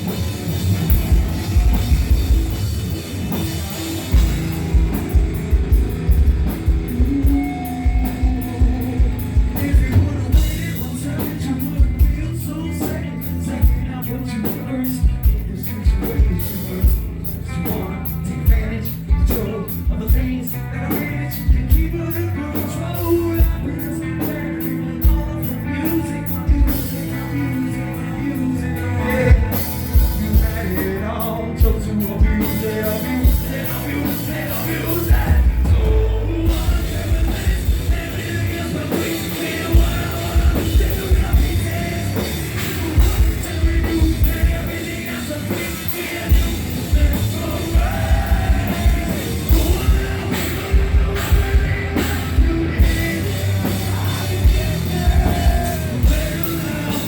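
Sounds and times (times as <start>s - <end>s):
distorted guitars: 0.0s - 57.0s
person singing: 3.3s - 57.0s.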